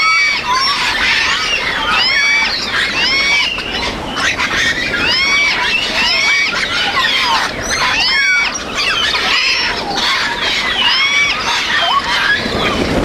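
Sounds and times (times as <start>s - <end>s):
parrots calling harshly: 0.0s - 12.9s.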